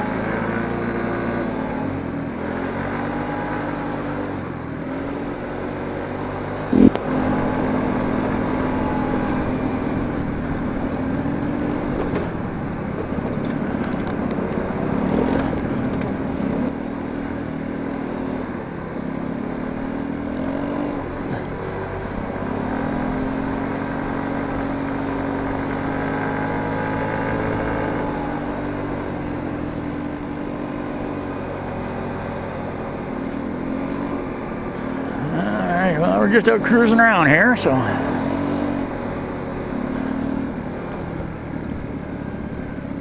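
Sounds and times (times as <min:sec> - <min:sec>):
motor scooter engine: 0:00.0 - 0:43.0.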